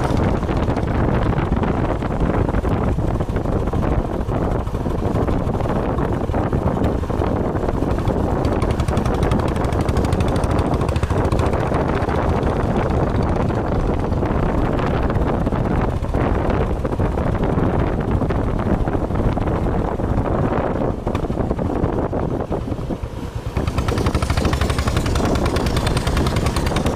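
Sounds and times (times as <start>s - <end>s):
vehicle engine running: 0.0s - 26.9s
wind buffeting microphone: 0.0s - 26.9s.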